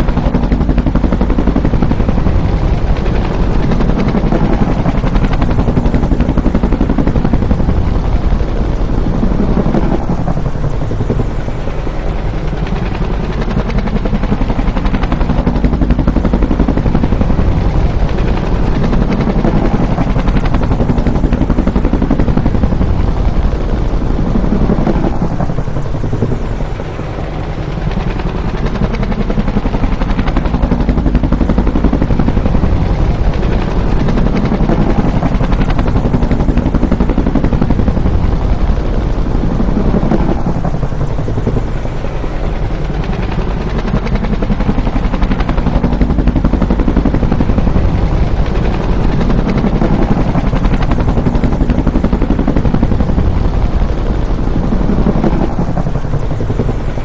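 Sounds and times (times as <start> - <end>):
helicopter rotor throbbing: 0.0 - 57.0.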